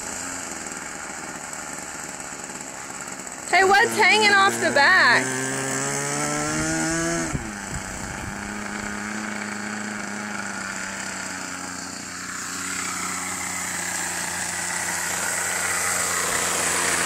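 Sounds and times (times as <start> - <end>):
model airplane engine idling: 0.0 - 17.0.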